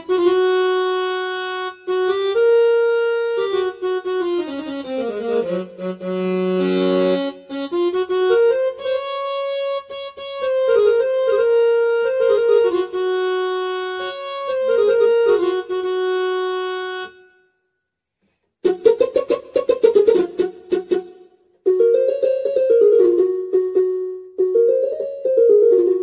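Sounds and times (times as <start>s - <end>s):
electronic keyboard melody: 0.0s - 17.6s, 18.6s - 26.0s.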